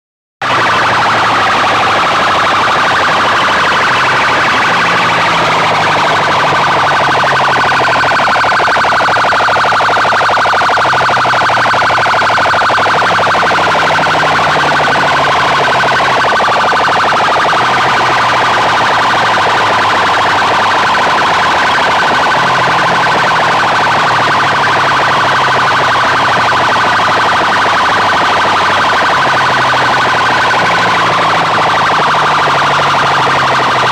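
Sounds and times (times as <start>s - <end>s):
loud siren-like wail from loudspeakers: 0.4s - 33.9s.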